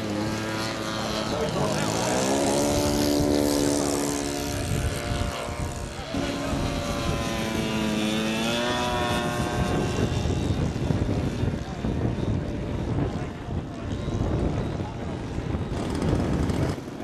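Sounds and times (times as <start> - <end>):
model plane engine and propeller: 0.0 - 17.0.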